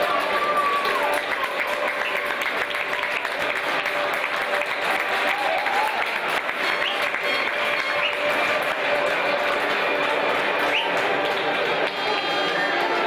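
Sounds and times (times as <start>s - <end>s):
faint music: 0.0s - 13.0s
stadium crowd applauding: 0.0s - 13.0s.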